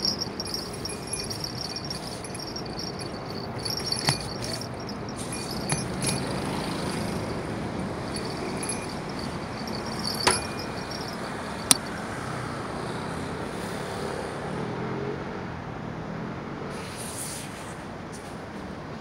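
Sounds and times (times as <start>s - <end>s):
city street traffic noise: 0.0s - 19.0s.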